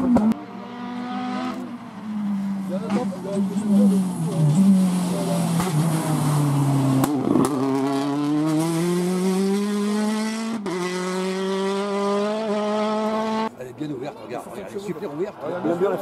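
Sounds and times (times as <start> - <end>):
rally car engine: 0.0 - 13.5.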